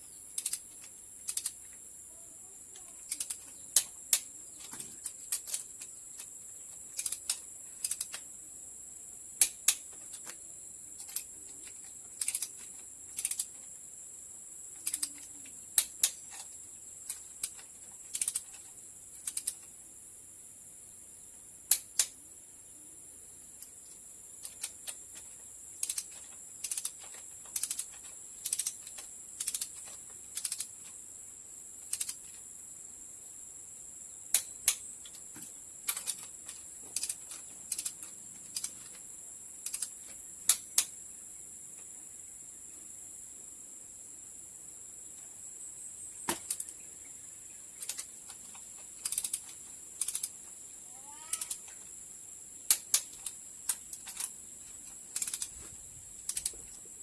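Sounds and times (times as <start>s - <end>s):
high-pitched hiss: 0.0s - 57.0s.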